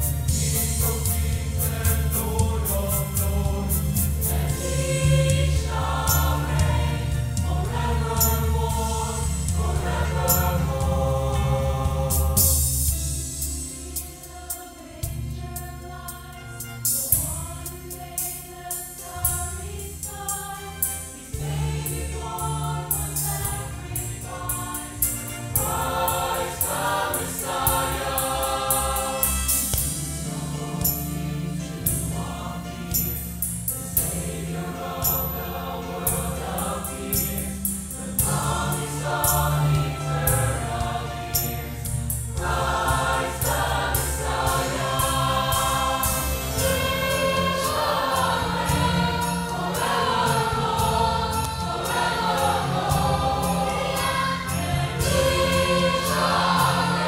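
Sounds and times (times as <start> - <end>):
choir singing: 0.0 - 57.0
instrumental accompaniment with bass: 0.0 - 57.0.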